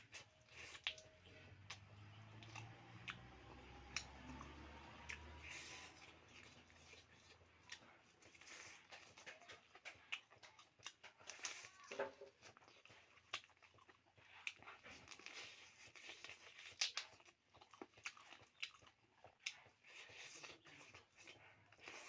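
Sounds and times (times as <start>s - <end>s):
chewing and biting: 0.0s - 22.0s.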